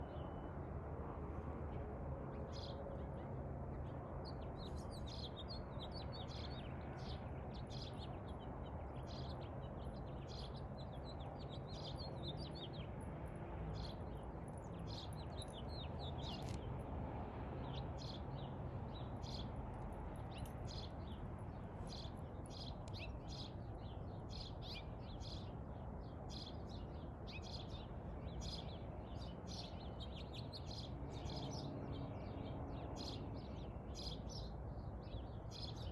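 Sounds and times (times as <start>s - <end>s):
songbirds chirping: 2.4s - 35.9s.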